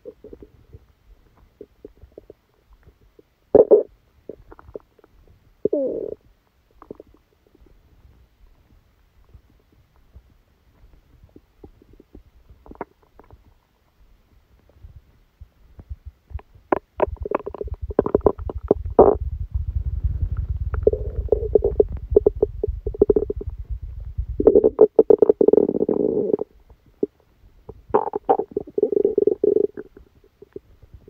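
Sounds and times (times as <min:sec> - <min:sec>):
stomach gurgling: 0:00.0 - 0:13.7, 0:15.7 - 0:31.0.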